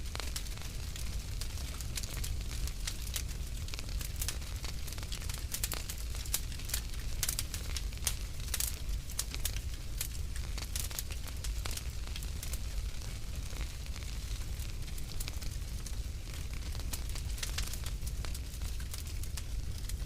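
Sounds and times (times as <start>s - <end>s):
fire crackling and popping: 0.0s - 20.0s
low rumble of flame: 0.0s - 20.0s.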